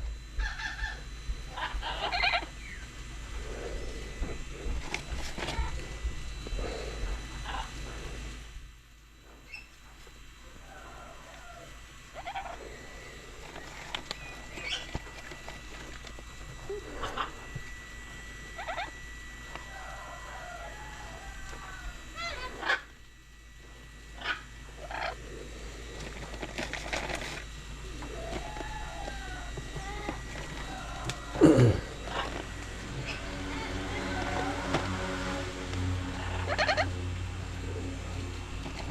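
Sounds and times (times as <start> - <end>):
birds chirping and squawking: 0.4 - 8.0, 10.6 - 23.1, 24.1 - 38.9.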